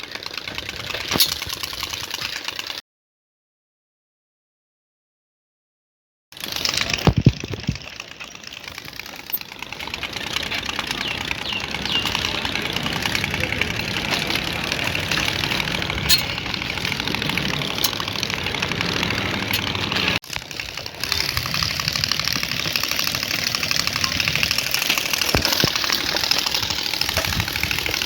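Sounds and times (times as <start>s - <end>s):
engine exhaust pulsing: 0.0s - 2.8s, 6.4s - 28.0s.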